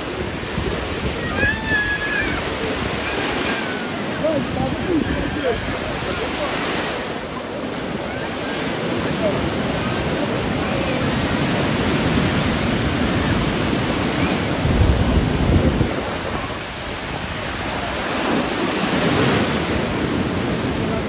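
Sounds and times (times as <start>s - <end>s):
small waves breaking on beach: 0.0s - 21.0s.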